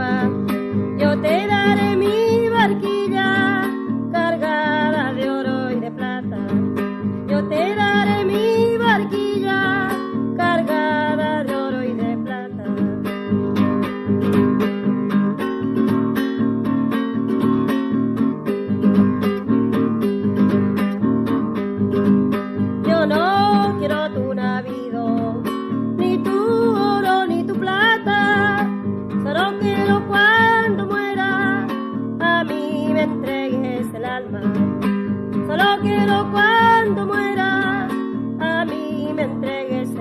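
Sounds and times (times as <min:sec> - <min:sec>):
strummed acoustic guitar: 0:00.0 - 0:40.0.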